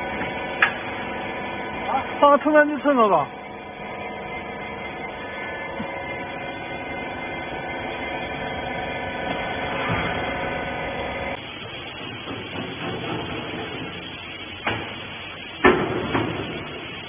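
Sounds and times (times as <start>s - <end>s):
electric motor and pump humming: 0.0s - 17.0s.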